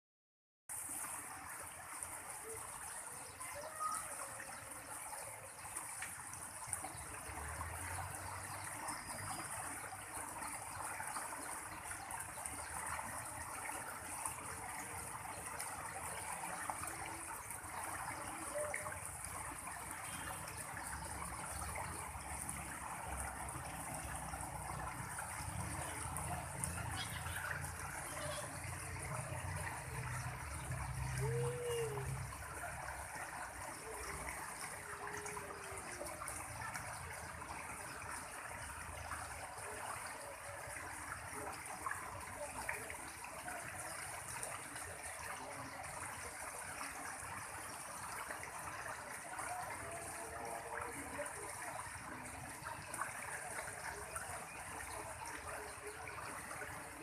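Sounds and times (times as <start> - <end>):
stream water trickling: 0.7 - 57.0.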